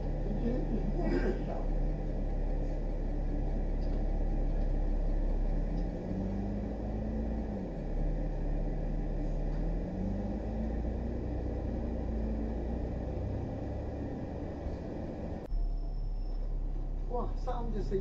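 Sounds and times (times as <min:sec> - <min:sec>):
car engine hum: 0:00.0 - 0:18.0.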